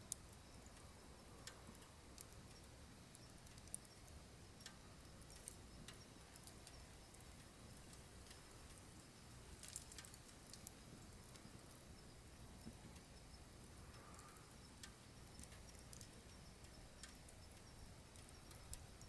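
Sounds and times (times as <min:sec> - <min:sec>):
low rumble of flame: 0:00.0 - 0:19.0
wood fire crackling and popping: 0:00.0 - 0:19.0.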